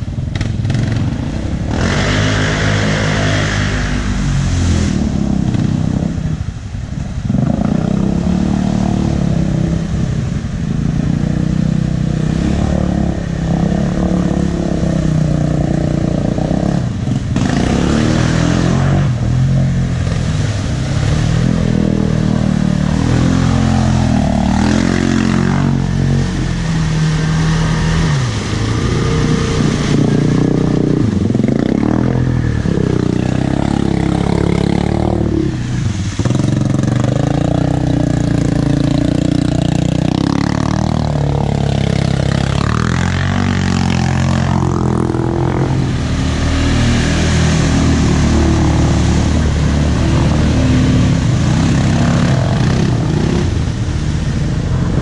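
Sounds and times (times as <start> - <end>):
atv engines revving: 0.0 - 55.0
quads churning through mud: 0.0 - 55.0.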